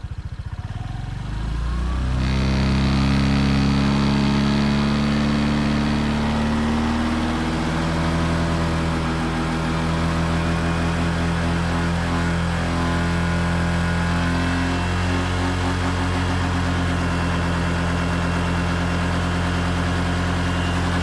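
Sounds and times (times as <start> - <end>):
scooter engine buzzing: 0.0 - 21.0.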